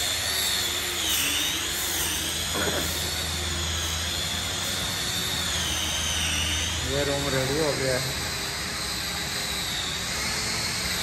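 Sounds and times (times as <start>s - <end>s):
electric grinder whining: 0.0s - 11.0s.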